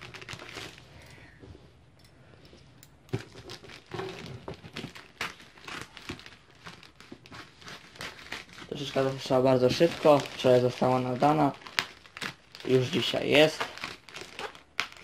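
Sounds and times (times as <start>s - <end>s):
plastic crinkling: 0.0s - 1.1s, 3.1s - 15.0s.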